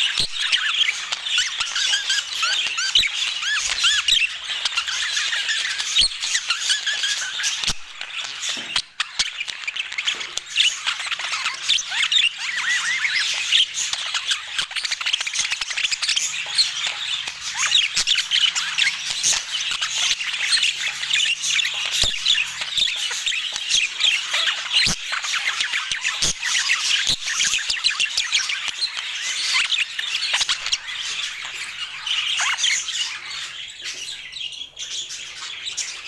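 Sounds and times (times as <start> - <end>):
budgerigars chattering: 0.0 - 36.0.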